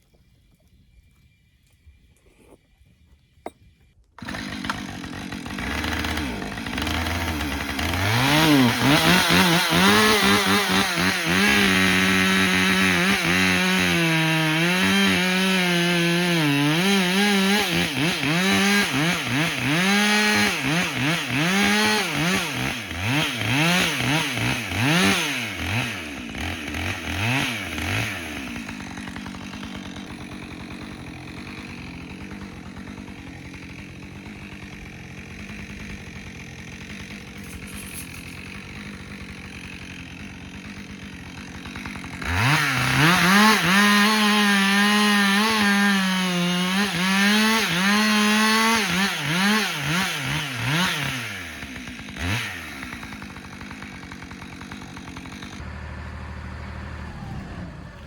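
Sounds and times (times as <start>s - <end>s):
chainsaw revving: 4.2s - 58.0s.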